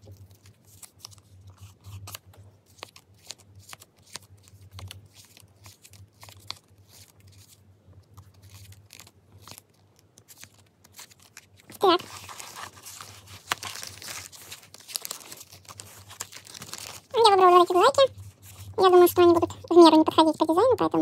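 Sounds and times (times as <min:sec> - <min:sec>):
paper rustling and clicking: 0:00.0 - 0:18.7
low steady hum: 0:00.0 - 0:21.0.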